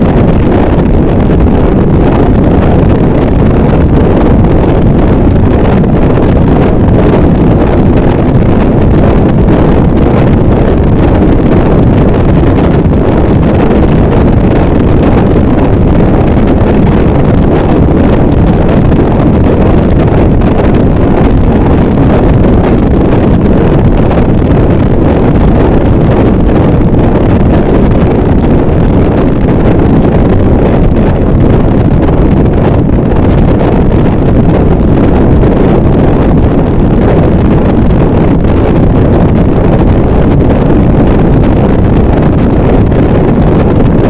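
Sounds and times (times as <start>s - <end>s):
distorted static noise wall: 0.0s - 44.0s.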